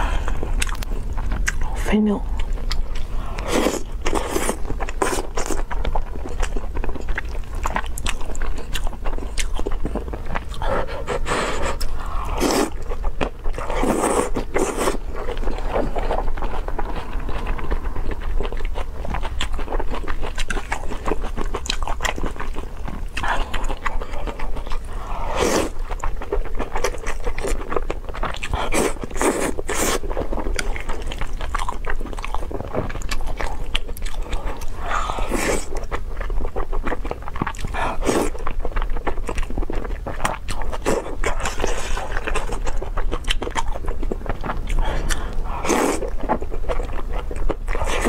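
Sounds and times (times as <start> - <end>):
faint low hum: 0.0 - 48.0
wet chewing and mouth clicks: 0.0 - 48.0.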